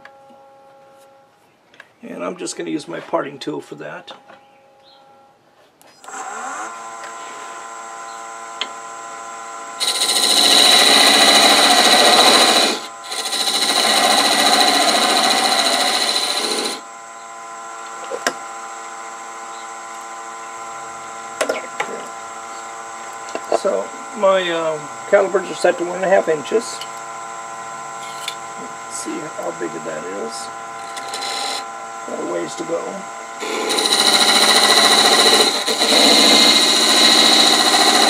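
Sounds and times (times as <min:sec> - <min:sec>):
tool cutting spinning wood: 0:06.0 - 0:38.0
wood lathe motor running: 0:06.0 - 0:38.0.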